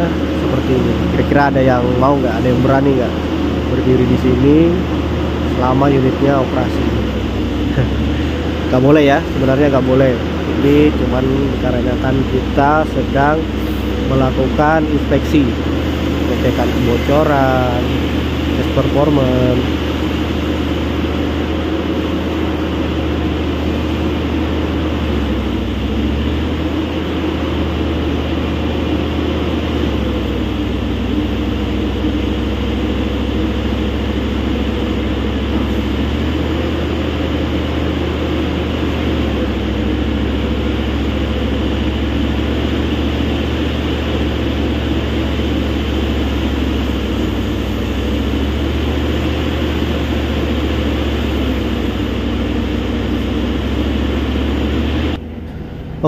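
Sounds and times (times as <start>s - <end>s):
excavator engine and hydraulics drone: 0.0s - 56.0s.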